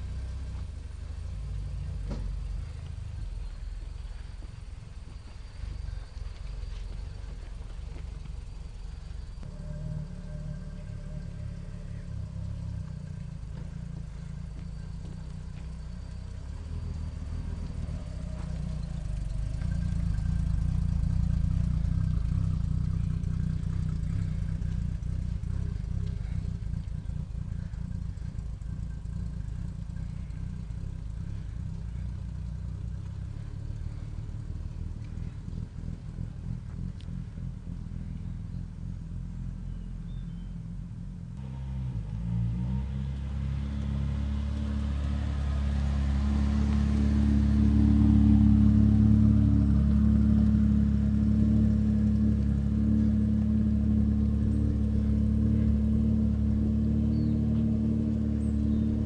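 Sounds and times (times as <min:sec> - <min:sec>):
car engine rumbling: 0:00.0 - 0:59.0.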